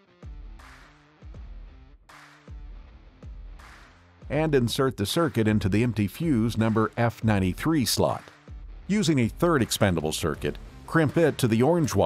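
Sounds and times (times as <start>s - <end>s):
electronic music with steady beat: 0.2s - 12.0s.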